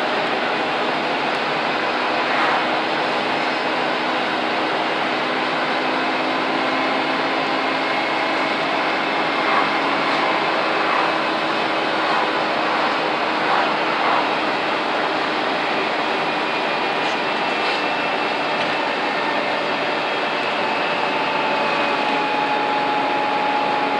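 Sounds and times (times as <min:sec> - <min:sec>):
bus diesel engine whining drone: 0:00.0 - 0:23.9.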